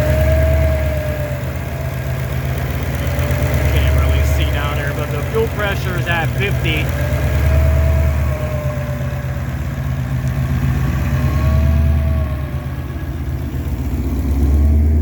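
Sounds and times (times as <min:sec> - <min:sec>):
car engine idling deep rumble: 0:00.0 - 0:15.0.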